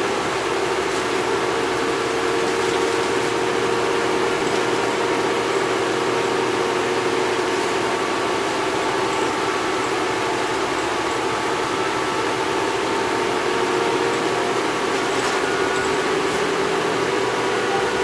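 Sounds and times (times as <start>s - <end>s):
bus engine running: 0.0s - 18.0s.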